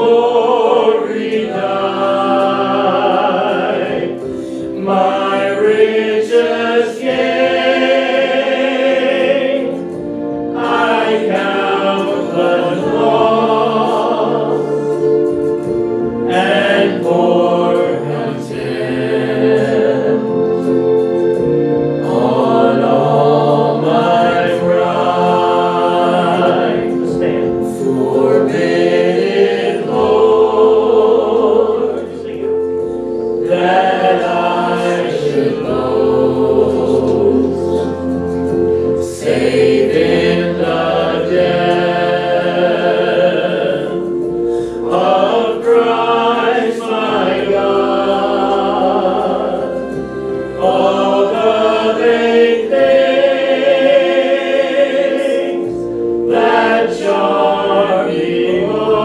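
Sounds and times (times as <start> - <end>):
group singing a worship song: 0.0 - 59.0.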